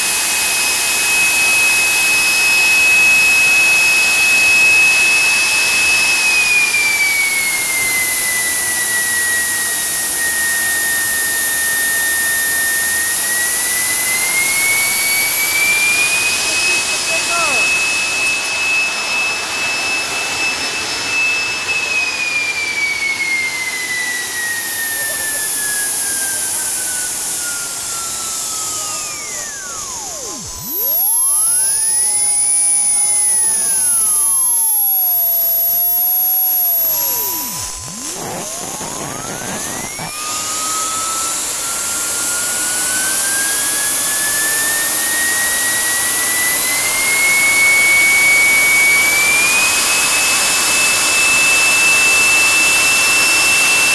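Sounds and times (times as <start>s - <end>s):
jet turbine engine whining: 0.0s - 53.9s.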